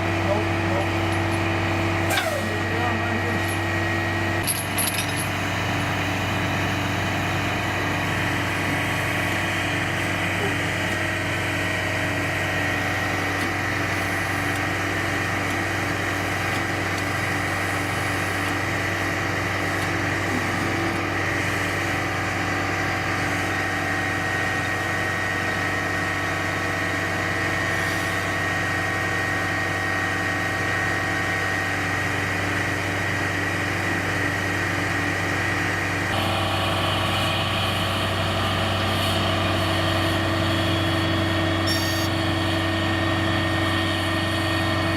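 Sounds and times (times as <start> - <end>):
diesel truck engine idling: 0.0 - 29.2, 34.8 - 44.9.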